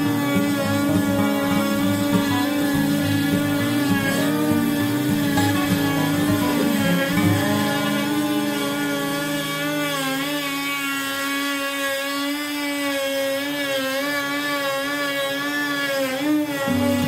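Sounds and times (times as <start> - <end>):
power tool motor whining: 0.0 - 17.0.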